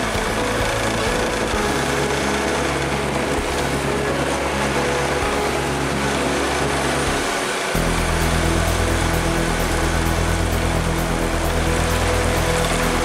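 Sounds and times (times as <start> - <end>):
low engine hum: 0.0 - 13.0
road noise: 0.0 - 13.0.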